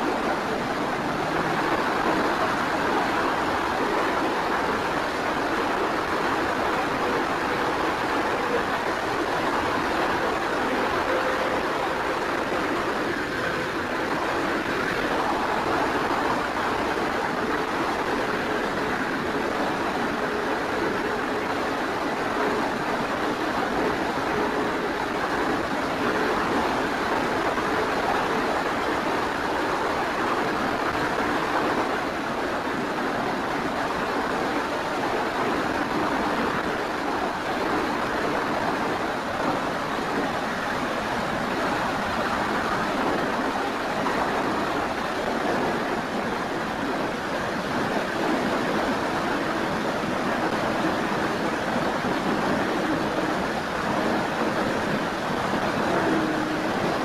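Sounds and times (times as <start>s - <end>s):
propeller noise: 0.0s - 35.2s, 36.1s - 57.0s
faint motor hum: 0.0s - 57.0s
wind rush: 0.0s - 57.0s.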